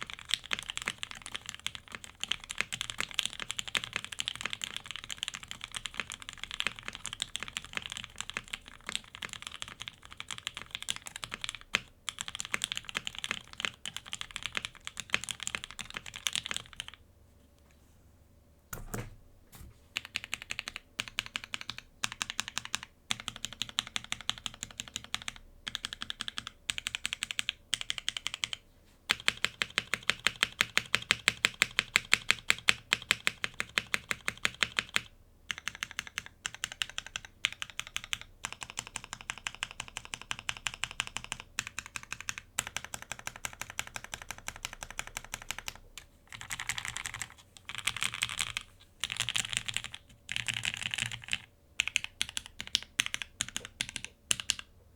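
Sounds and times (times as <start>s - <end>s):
mechanical keyboard typing: 0.0s - 17.0s, 18.7s - 19.2s, 20.0s - 54.7s.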